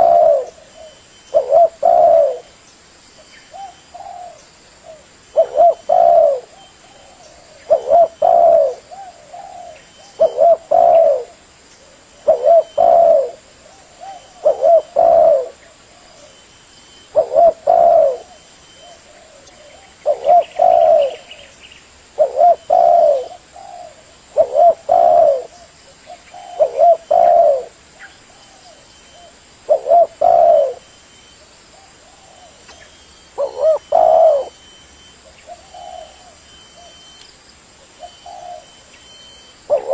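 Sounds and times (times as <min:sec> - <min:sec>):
dove cooing: 0:00.0 - 0:02.6, 0:03.5 - 0:21.5, 0:22.1 - 0:37.2, 0:37.9 - 0:39.9.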